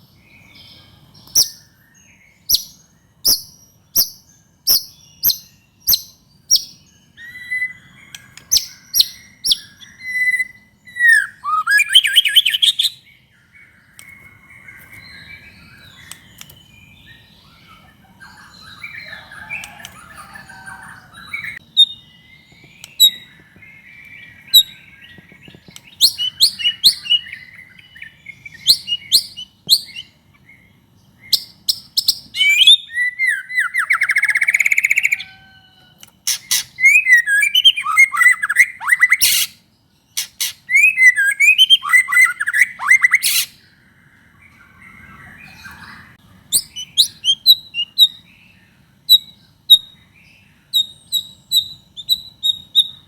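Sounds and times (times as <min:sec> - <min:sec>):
songbird whistling and trilling: 0:00.3 - 0:39.6, 0:40.2 - 0:43.8, 0:44.4 - 0:53.0.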